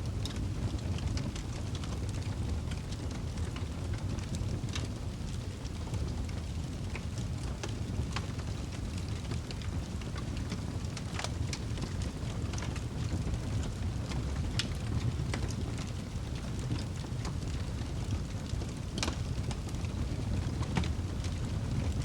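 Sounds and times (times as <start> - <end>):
fire crackles and pops: 0.0 - 22.0
low rumble of flame: 0.0 - 22.0.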